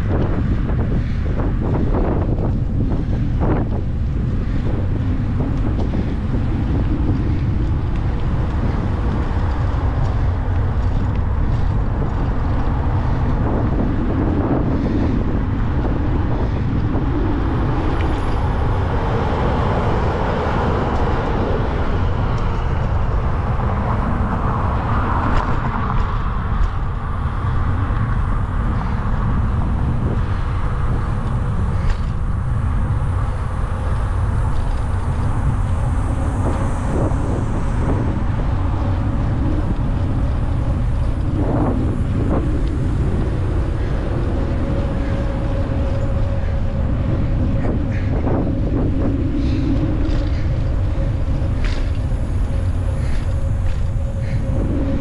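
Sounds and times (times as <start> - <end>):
wind rumble on microphone: 0.0 - 55.0
road traffic passing: 3.9 - 55.0.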